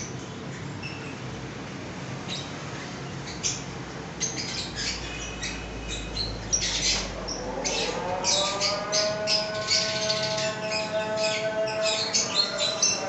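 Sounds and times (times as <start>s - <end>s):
birds squawking and chirping: 0.0s - 1.4s, 2.1s - 13.0s.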